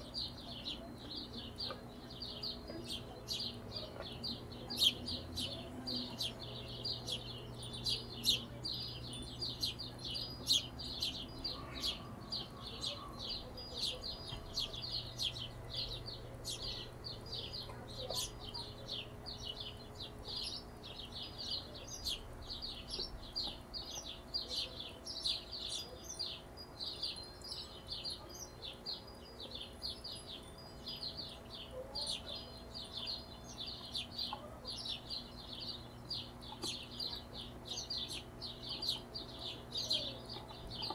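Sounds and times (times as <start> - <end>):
hummingbirds chittering: 0.0 - 40.9.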